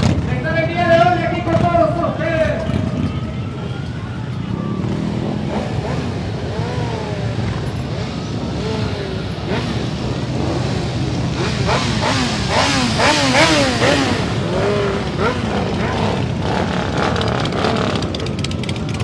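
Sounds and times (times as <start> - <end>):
motor vehicle engine running: 0.0 - 19.0.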